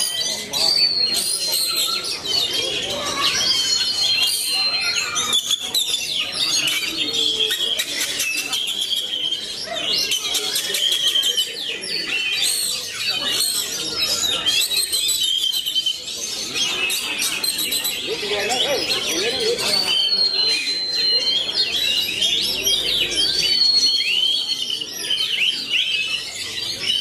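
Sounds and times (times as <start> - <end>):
bird singing whistles and trills: 0.0 - 27.0.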